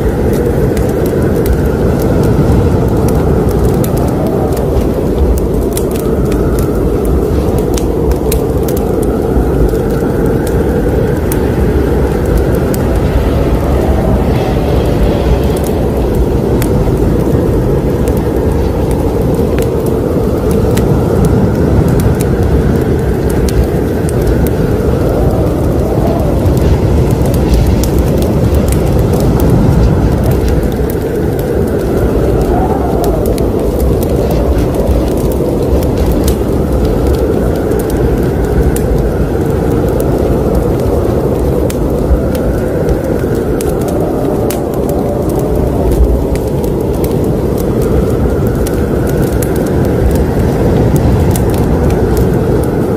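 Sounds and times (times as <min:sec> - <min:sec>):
fire crackles: 0:00.0 - 0:52.9
wood fire burning: 0:00.0 - 0:52.9.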